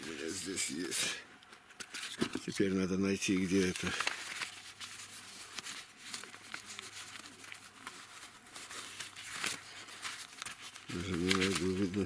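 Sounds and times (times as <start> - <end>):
papers rustling and crinkling: 0.0 - 12.0.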